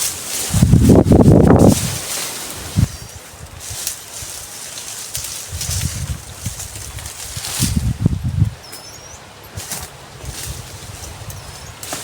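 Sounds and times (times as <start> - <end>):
rustling in dry leaves: 0.0 - 12.0.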